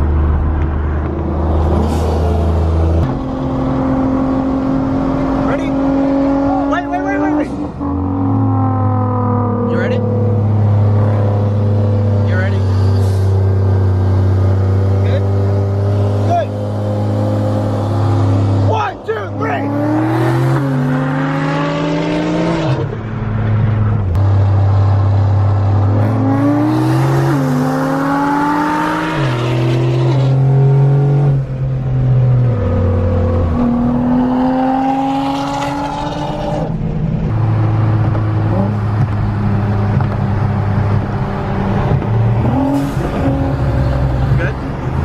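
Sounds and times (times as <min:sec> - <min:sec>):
car engine revving through gears: 0:00.6 - 0:45.0.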